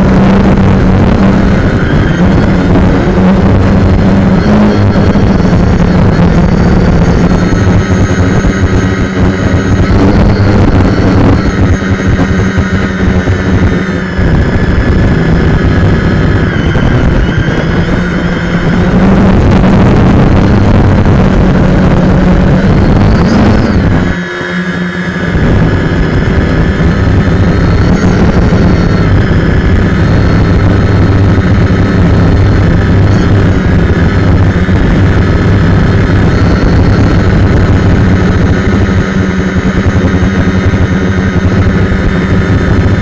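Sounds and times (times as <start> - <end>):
drone propellers buzzing: 0.0 - 43.0.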